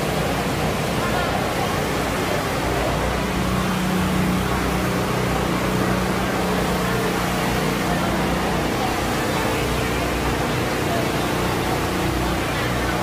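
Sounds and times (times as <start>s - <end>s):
street festival crowd din: 0.0s - 13.0s.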